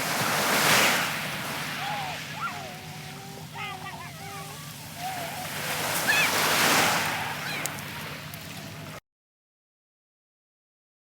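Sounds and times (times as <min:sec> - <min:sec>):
sea wave breaking on shore: 0:00.0 - 0:09.0.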